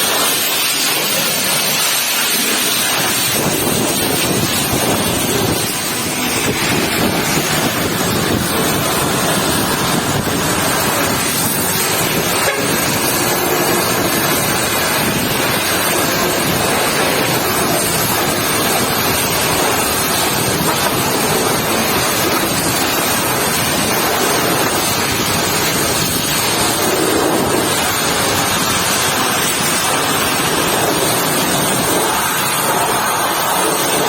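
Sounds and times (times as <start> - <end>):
pressure washer spraying water: 0.0 - 34.0.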